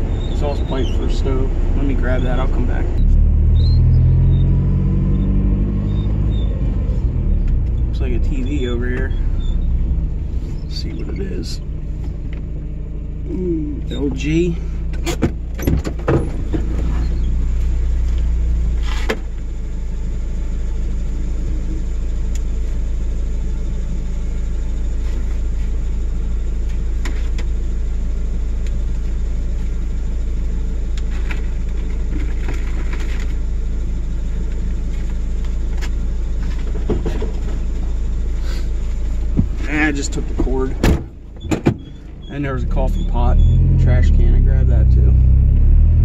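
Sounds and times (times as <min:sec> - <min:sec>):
truck engine low rumble: 0:00.0 - 0:46.0.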